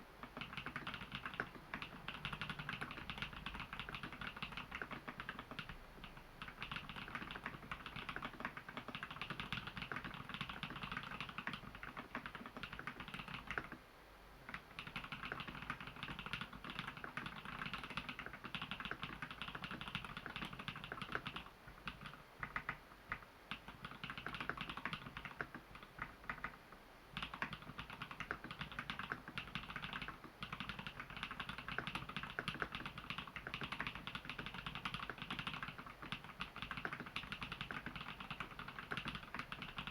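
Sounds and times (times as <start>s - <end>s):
mechanical keyboard typing: 0.2s - 13.8s, 14.5s - 39.9s.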